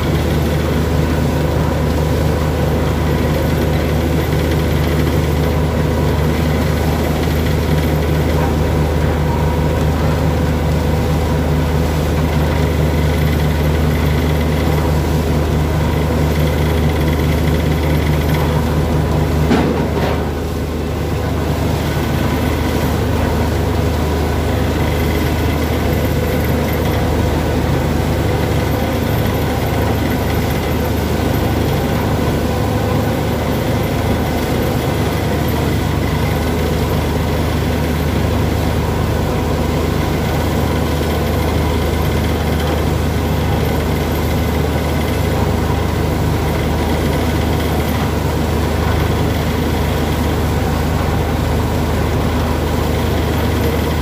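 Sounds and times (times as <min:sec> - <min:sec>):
heavy engine drone: 0:00.0 - 0:54.0.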